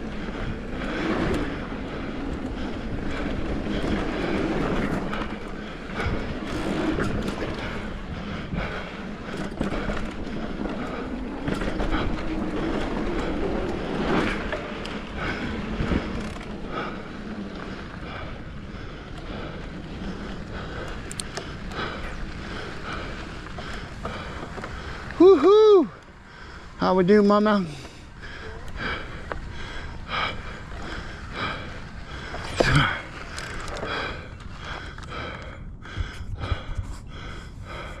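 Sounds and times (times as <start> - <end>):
person breathing hard: 0.0 - 26.8, 27.7 - 38.0
tyres rumbling on dirt and rock: 0.0 - 35.4
bike rattling and knocking: 0.0 - 37.9.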